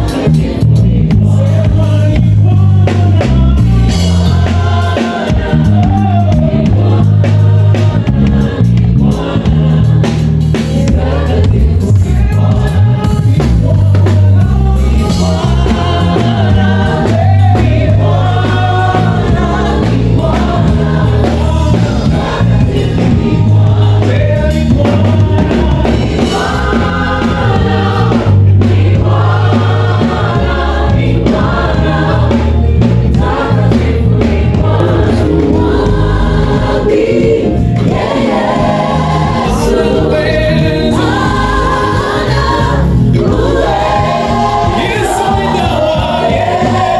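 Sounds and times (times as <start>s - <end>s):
gospel band and choir singing: 0.0s - 46.9s
steady bass line: 0.0s - 46.9s.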